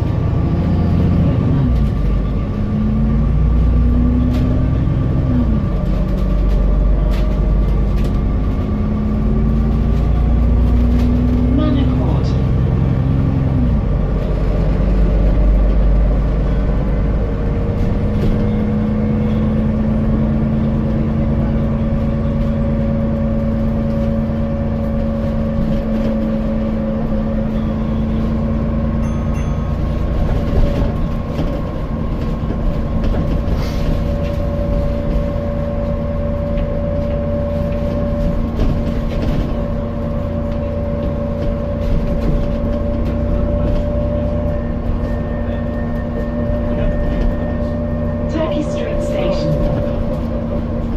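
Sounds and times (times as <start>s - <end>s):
bus engine idling rumble: 0.0s - 50.9s.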